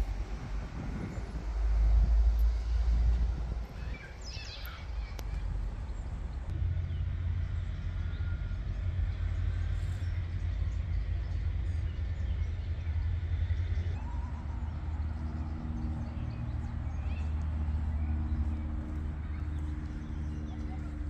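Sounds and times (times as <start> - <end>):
low droning hum: 0.0 - 21.0
low rumble: 0.0 - 21.0
songbirds chirping: 0.0 - 21.0.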